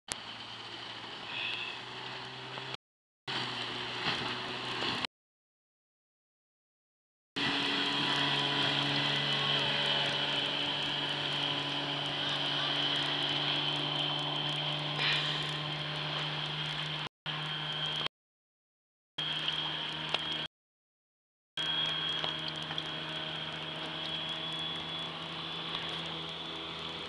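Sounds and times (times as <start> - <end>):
outboard motor droning: 0.1 - 5.1, 7.4 - 18.1, 19.2 - 20.5, 21.6 - 27.0
water noise: 0.1 - 5.1, 7.4 - 18.1, 19.2 - 20.5, 21.6 - 27.0.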